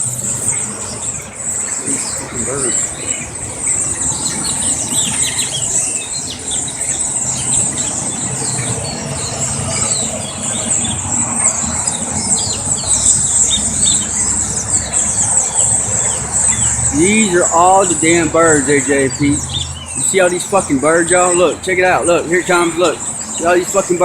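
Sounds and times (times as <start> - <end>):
flock of birds squeaking: 0.0 - 24.0.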